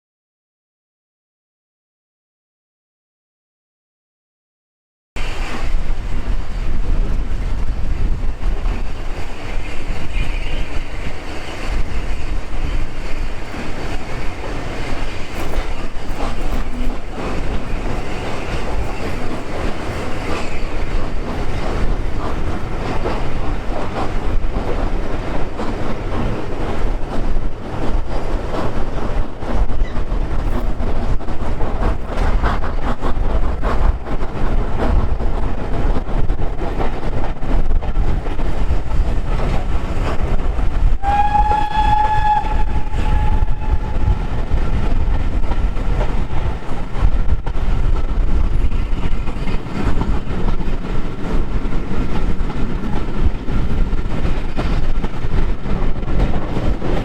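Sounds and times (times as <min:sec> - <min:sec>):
steam train rumble: 0:05.2 - 0:57.0.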